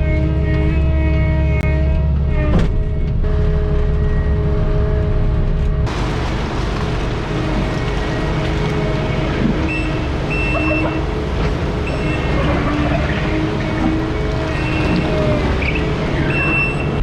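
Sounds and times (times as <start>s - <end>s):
farm machinery engine running: 0.0s - 17.0s.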